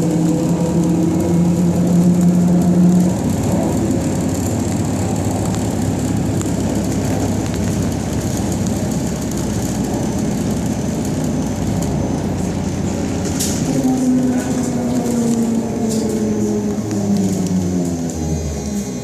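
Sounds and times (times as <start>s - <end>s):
trolleybus running gear rumble: 0.0s - 19.0s.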